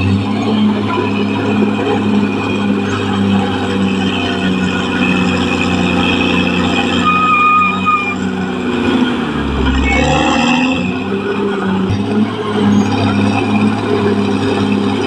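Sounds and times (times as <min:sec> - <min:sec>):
bulldozer diesel engine running: 0:00.0 - 0:15.0
high-pitched squeal: 0:00.0 - 0:15.0.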